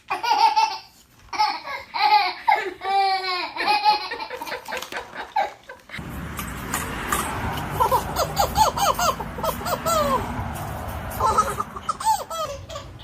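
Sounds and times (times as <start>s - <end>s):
baby laughing: 0.0s - 6.0s, 7.4s - 13.0s.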